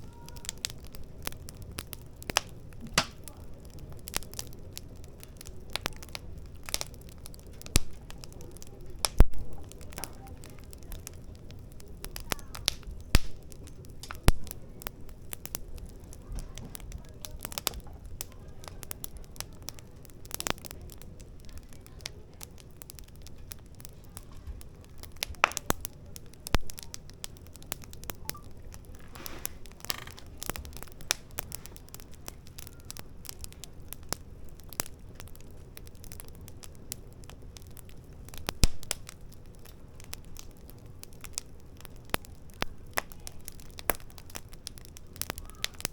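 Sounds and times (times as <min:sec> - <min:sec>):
fire crackling and popping: 0:00.0 - 0:45.9
hiss of burning: 0:00.0 - 0:45.9.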